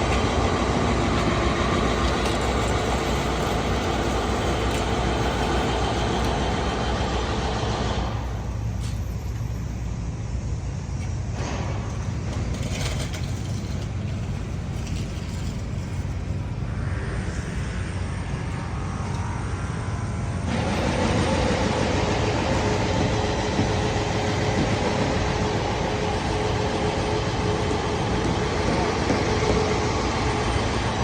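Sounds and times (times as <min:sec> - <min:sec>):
passing vehicles rumbling: 0:00.0 - 0:31.0.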